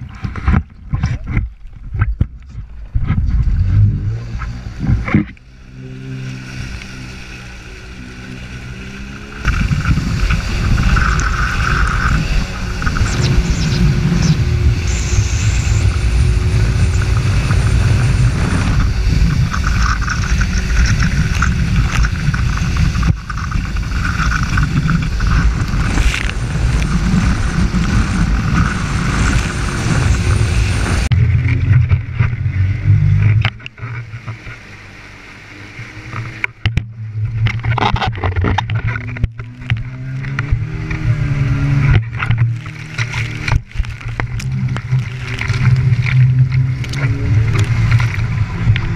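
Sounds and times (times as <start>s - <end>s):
jet ski engine: 0.0s - 48.9s
water rushing and splashing: 0.0s - 48.9s.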